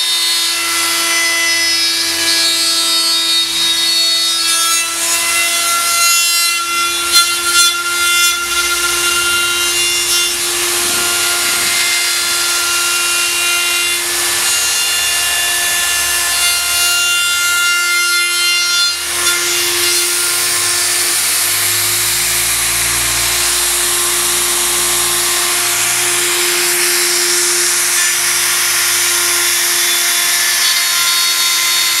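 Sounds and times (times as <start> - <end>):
router motor whine: 0.0 - 32.0
rasping cutting of metal: 2.4 - 32.0.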